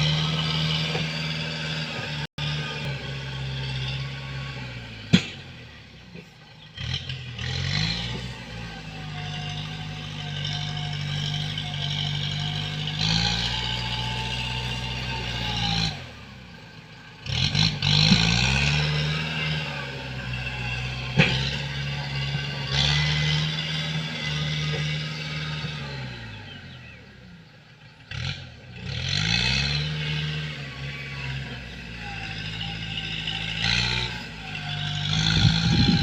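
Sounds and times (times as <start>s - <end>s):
tractor diesel engine revving: 0.0s - 36.0s.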